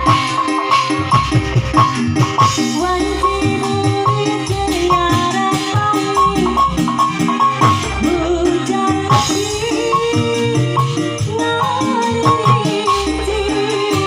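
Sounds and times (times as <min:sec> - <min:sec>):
drums: 0:00.0 - 0:14.0
heavy bass: 0:00.0 - 0:14.0
melody with sliding notes: 0:00.0 - 0:14.0
shaken percussion: 0:00.0 - 0:14.0.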